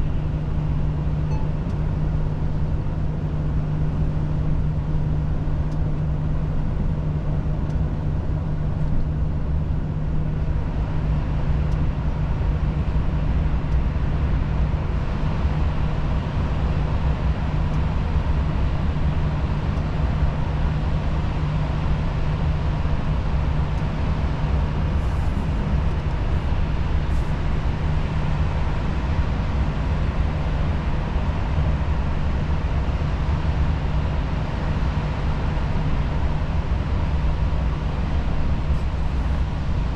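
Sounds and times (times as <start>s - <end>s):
diesel engine drone: 0.0s - 39.9s
road and tyre noise: 0.0s - 39.9s.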